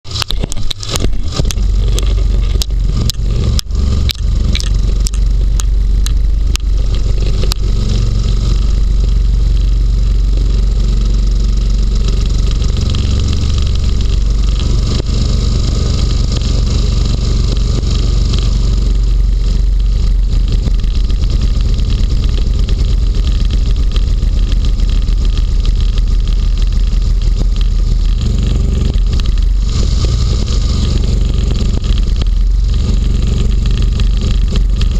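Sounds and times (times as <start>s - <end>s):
hovercraft engine and fan: 0.0s - 34.9s.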